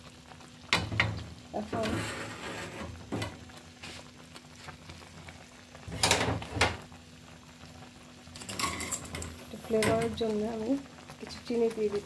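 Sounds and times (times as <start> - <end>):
curry gravy bubbling in a pan: 0.0 - 12.0.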